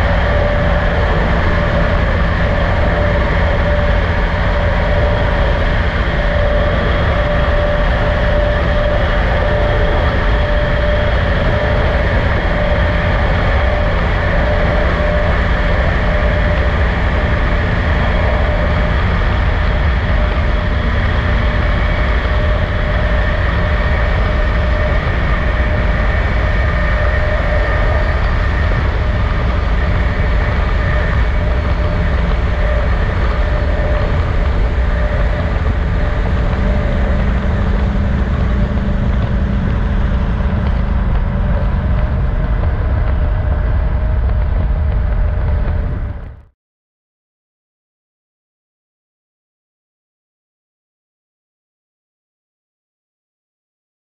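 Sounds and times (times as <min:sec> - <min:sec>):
faint steady hum: 0:00.0 - 0:46.5
vehicle road and engine rumble: 0:00.0 - 0:46.5.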